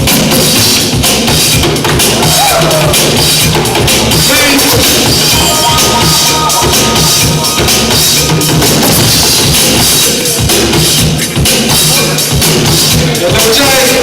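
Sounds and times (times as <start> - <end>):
loud music with heavy drums: 0.0 - 14.0.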